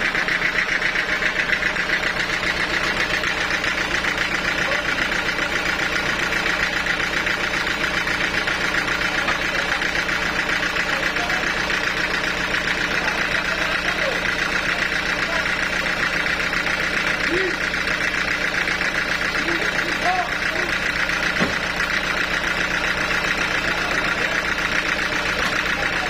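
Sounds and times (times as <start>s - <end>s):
sawmill machinery humming: 0.0s - 26.0s.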